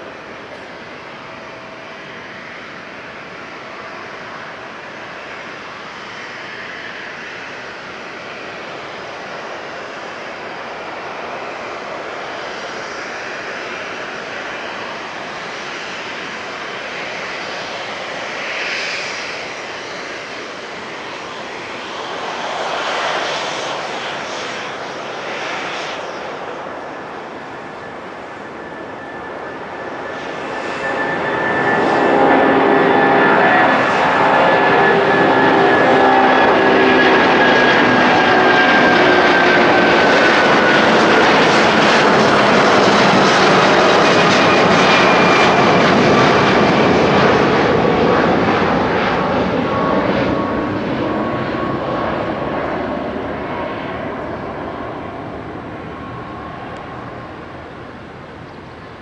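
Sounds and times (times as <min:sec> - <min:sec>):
jet engines at takeoff thrust: 0:00.0 - 0:59.0
high whine gliding downward: 0:08.1 - 0:59.0.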